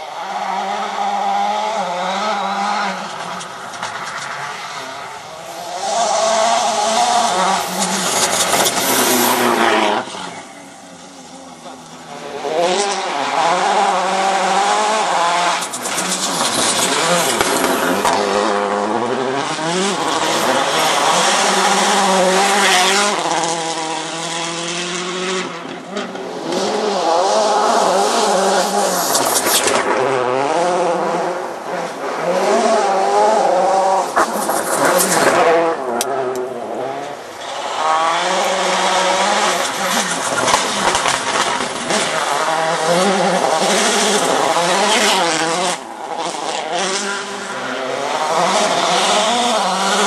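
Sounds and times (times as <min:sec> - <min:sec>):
rally car engine revving: 0:00.0 - 0:50.0.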